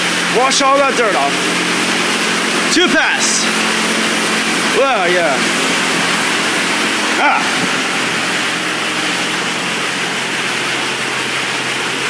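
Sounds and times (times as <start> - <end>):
high-pressure water jets spraying: 0.0 - 12.0
steady low hum: 0.0 - 12.0.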